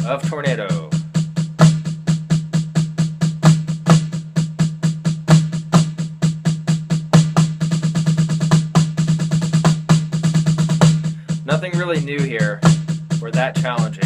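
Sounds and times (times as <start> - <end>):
snare drum played fast: 0.0 - 14.0.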